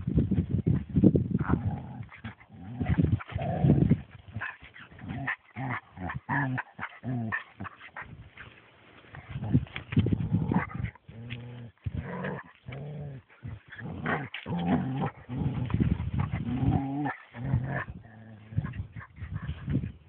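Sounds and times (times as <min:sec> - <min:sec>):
dogs growling: 0:01.4 - 0:08.2, 0:09.2 - 0:19.6.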